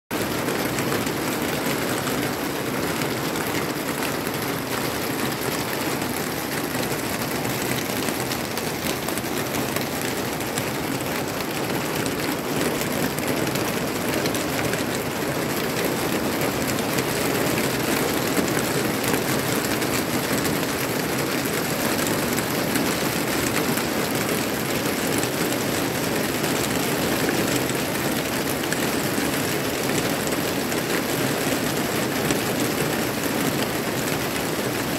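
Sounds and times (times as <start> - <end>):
rain on leaves and soil: 0.1 - 34.9.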